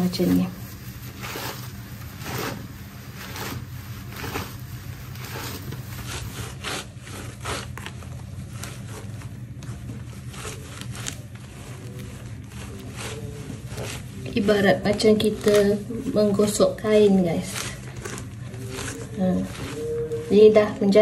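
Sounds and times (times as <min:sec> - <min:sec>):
leaves rubbed and crushed by hand: 0:00.0 - 0:21.0.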